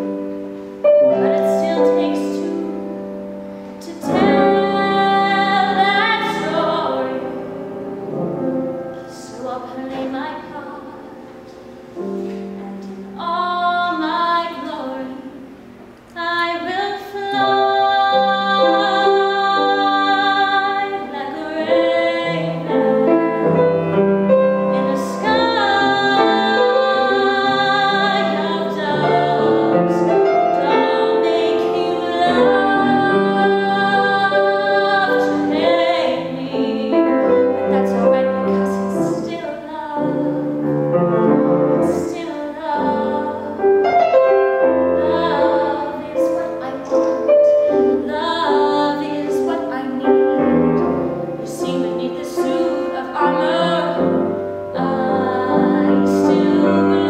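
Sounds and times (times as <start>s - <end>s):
woman singing with vibrato: 0.0s - 7.8s, 8.6s - 11.5s, 12.4s - 57.0s
grand piano: 0.0s - 57.0s.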